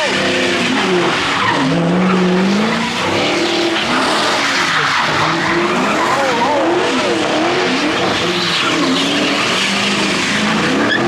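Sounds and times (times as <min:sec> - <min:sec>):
car engines revving: 0:00.0 - 0:11.0
tyres skidding and squealing: 0:00.0 - 0:11.0.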